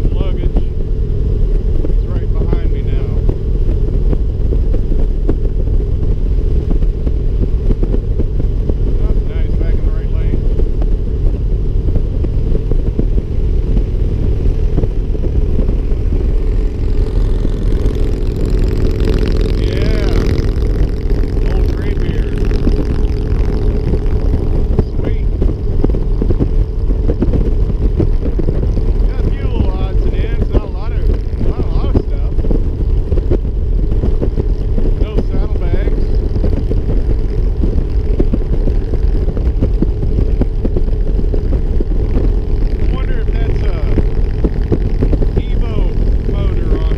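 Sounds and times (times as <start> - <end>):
motorcycle engine rumbling: 0.0 - 46.9
road and wind noise: 0.0 - 46.9.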